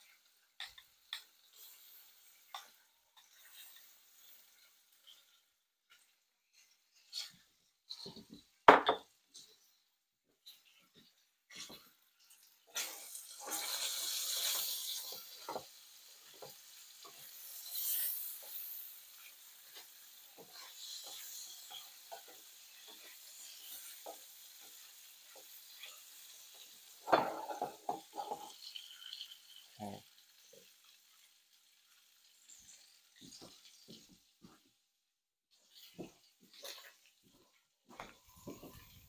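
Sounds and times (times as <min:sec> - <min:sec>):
batter sizzling in frying pan: 0:00.0 - 0:34.8, 0:35.5 - 0:39.0.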